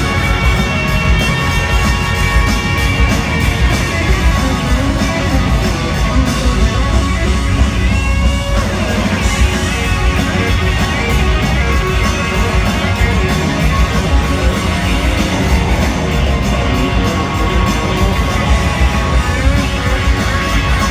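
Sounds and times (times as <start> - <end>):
live rock band: 0.0 - 20.9.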